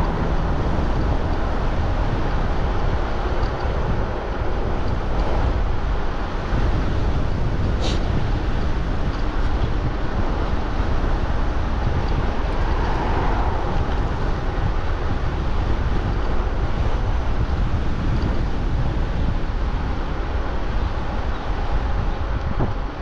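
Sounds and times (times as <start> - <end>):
road noise: 0.0 - 23.0
wind rush on microphone: 0.0 - 23.0.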